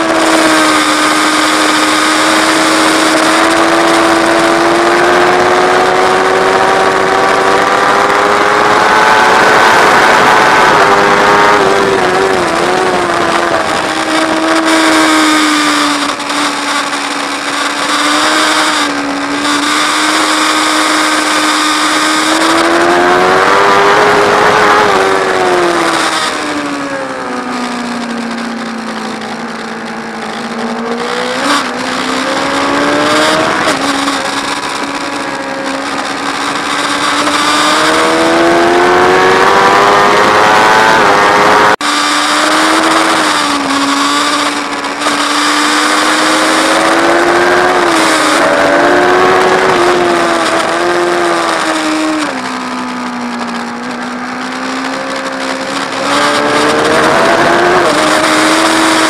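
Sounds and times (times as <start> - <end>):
motorcycle engine at high revs: 0.0 - 59.0.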